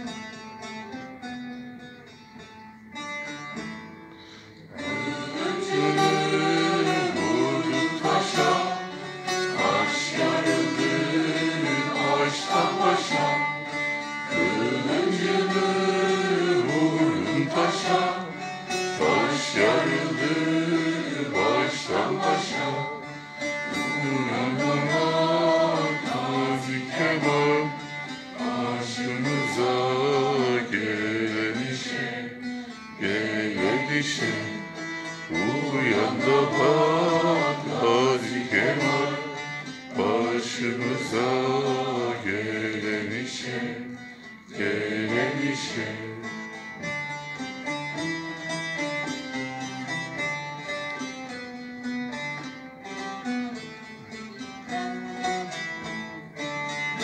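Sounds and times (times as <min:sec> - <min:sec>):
plucked lute: 0:00.0 - 0:57.0
mixed choir singing folk song: 0:04.2 - 0:50.8, 0:54.6 - 0:57.0.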